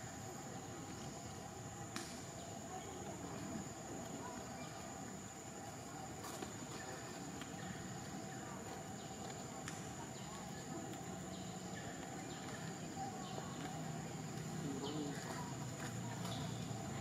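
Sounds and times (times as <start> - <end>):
faint low murmur: 0.0 - 17.0.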